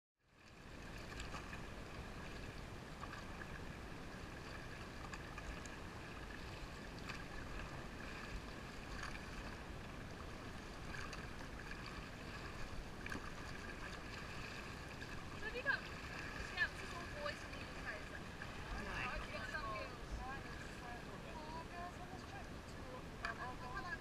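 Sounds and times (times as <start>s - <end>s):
paddles splashing: 0.3s - 24.0s
river water rushing: 0.5s - 24.0s.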